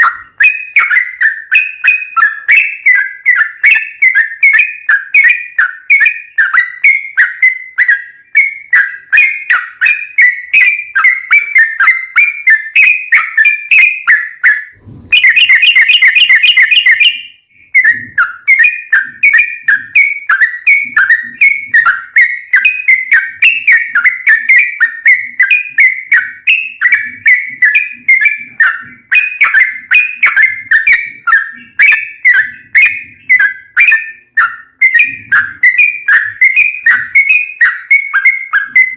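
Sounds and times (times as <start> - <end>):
bird song falling chirps: 0.0 - 38.9.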